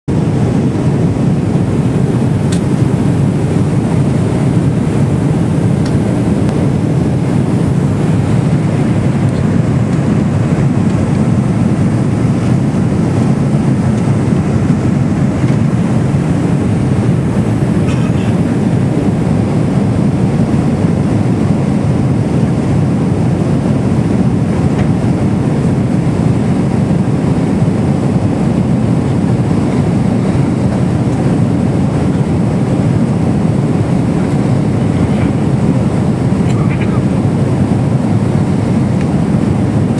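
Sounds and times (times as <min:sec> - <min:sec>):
airliner cabin roar: 0:00.1 - 0:39.9.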